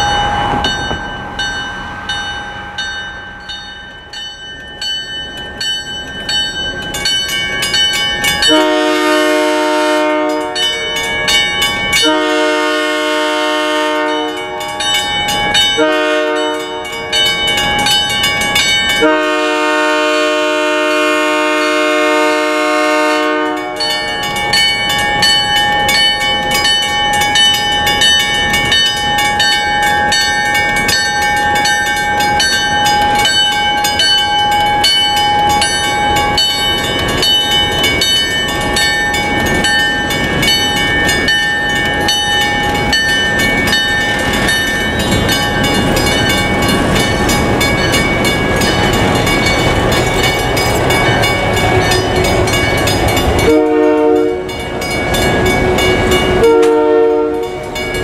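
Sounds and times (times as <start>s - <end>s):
crossing bell ringing: 0.0s - 58.0s
diesel locomotive engines: 0.0s - 58.0s.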